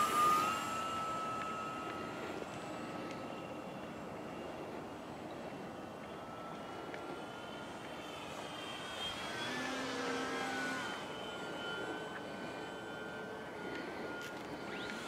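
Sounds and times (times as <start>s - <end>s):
model airplane propeller whine: 0.0s - 15.0s.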